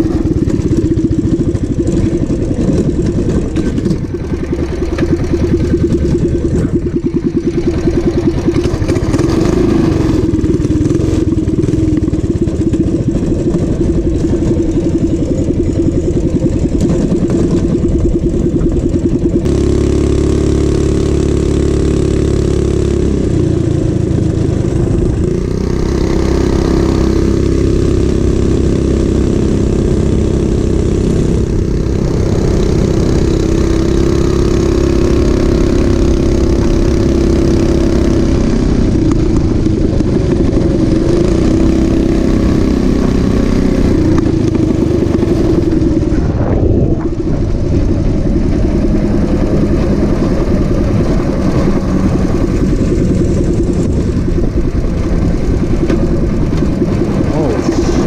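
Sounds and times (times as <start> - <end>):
mini bike engine running: 0.0 - 58.0.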